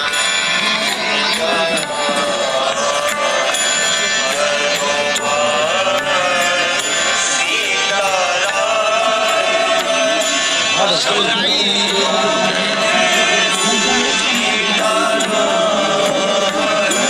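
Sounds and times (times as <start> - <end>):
musical accompaniment: 0.0 - 17.0
person singing a devotional chant: 0.0 - 17.0.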